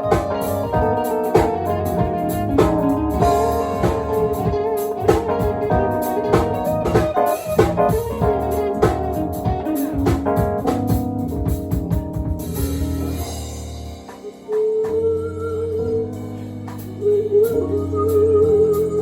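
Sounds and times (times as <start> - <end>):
jazz-funk band playing: 0.0 - 19.0.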